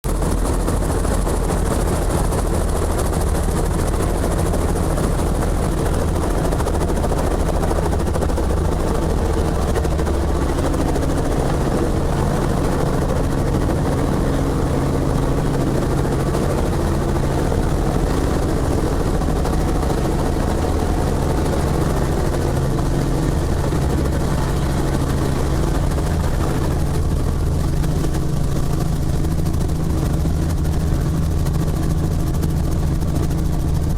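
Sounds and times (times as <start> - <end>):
helicopter running: 0.1 - 33.9.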